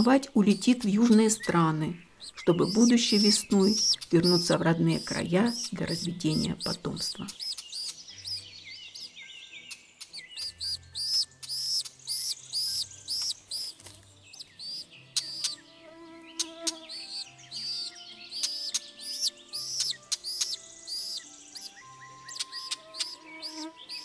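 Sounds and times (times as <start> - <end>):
bird chirping: 0.0 - 24.0
soft background music: 0.0 - 24.0.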